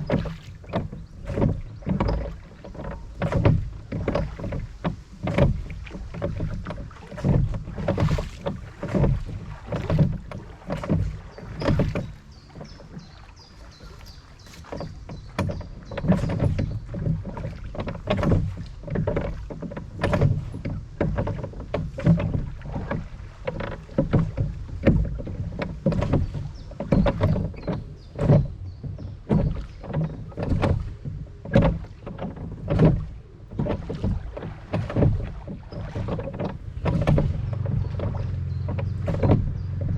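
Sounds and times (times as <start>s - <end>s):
oars splashing in water: 0.0s - 39.9s
water knocking against hull: 0.0s - 39.9s.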